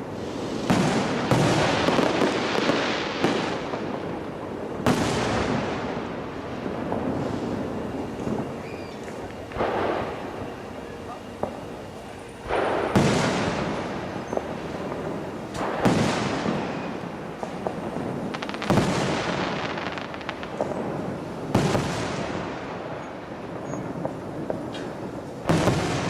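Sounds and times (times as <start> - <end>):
fireworks bangs: 0.0 - 26.0
fireworks rumble and crackle: 0.0 - 26.0.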